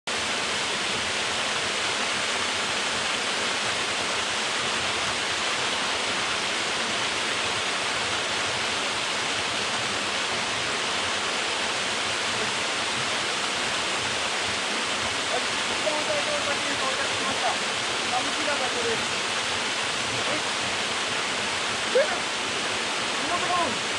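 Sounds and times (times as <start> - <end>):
small waterfall cascading: 0.1 - 23.9.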